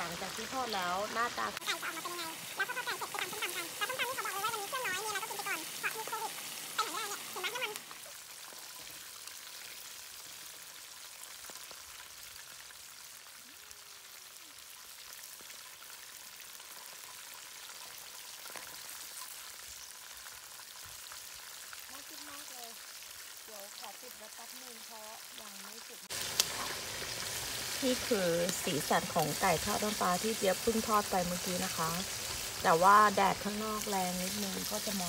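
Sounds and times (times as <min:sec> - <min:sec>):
chicken deep-frying in oil: 0:00.0 - 0:35.0.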